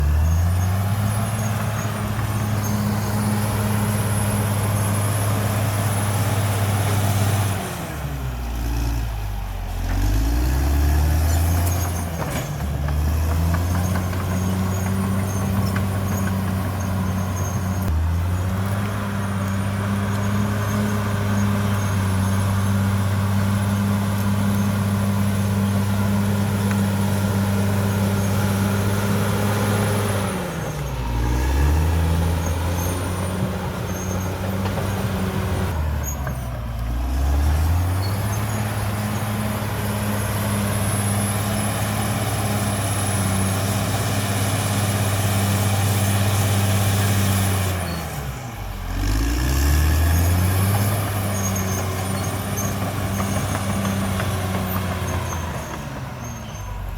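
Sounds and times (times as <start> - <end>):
bulldozer diesel engine revving: 0.0 - 56.9.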